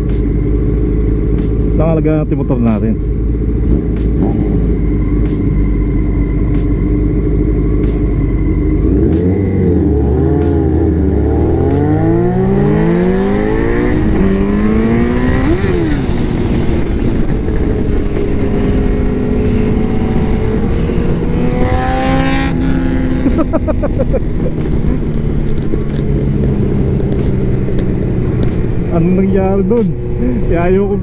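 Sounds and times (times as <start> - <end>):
motorcycle engine accelerating: 0.0 - 31.0
other motorcycle engines: 0.0 - 31.0.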